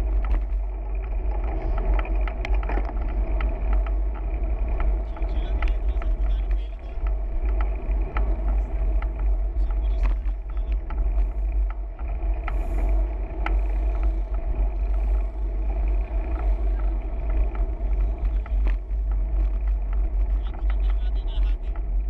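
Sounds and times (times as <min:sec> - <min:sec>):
road noise: 0:00.0 - 0:22.0
small clicks: 0:00.0 - 0:22.0
wind rumble: 0:00.0 - 0:22.0.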